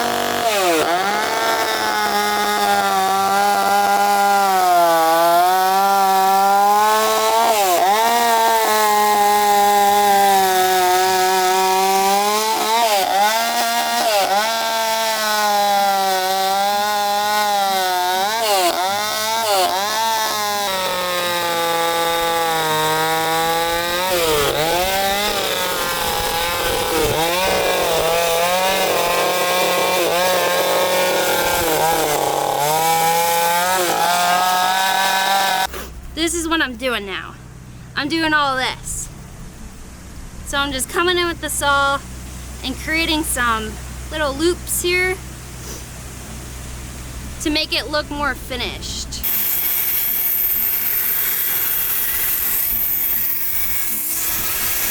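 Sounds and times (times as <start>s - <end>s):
chainsaw cutting wood: 0.0s - 37.3s, 42.6s - 54.9s.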